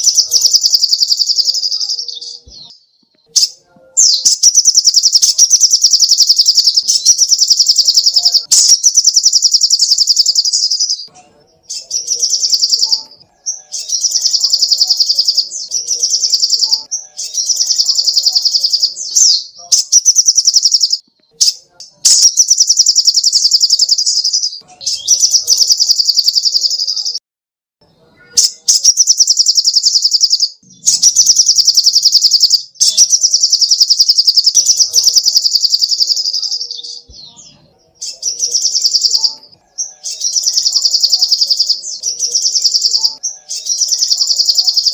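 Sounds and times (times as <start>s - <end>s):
bird singing rapid trills: 0.0s - 27.2s, 28.4s - 44.9s.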